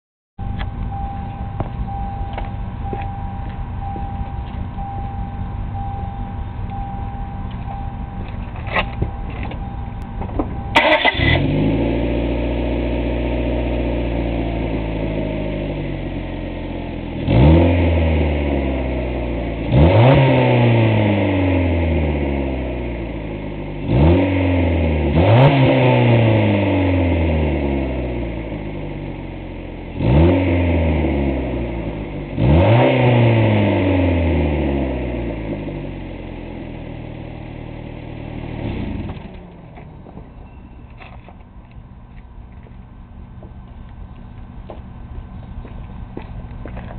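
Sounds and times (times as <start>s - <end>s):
car engine starting and revving: 0.4s - 40.4s.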